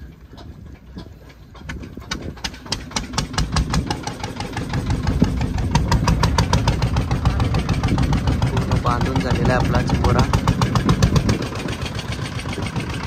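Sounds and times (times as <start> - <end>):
boat engine knocking: 0.0 - 13.0.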